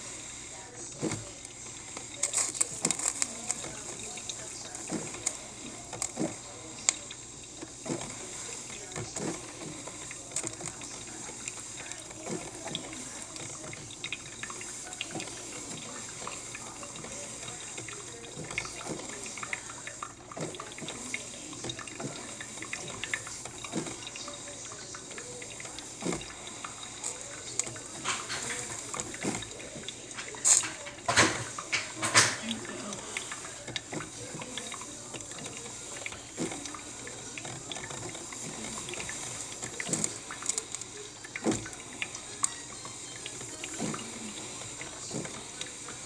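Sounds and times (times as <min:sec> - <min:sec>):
coffee maker hissing water: 0:00.0 - 0:46.0
small pops and sputters: 0:00.0 - 0:46.0.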